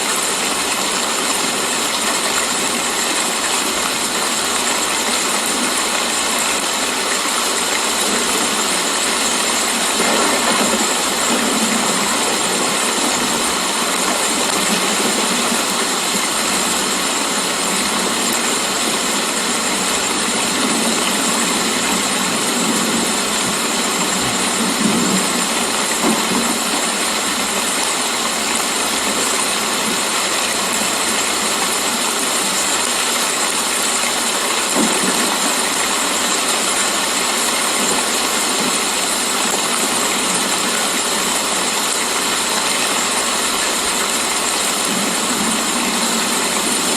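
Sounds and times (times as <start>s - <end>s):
steady rain hissing: 0.0s - 46.9s.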